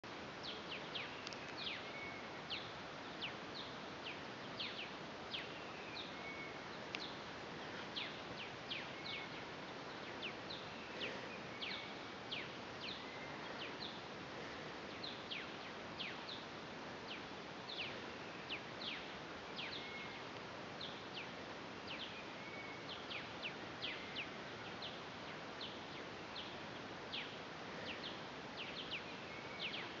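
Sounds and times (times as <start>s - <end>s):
steady hiss: 0.0s - 30.0s
birds calling with sharp notes: 0.4s - 30.0s.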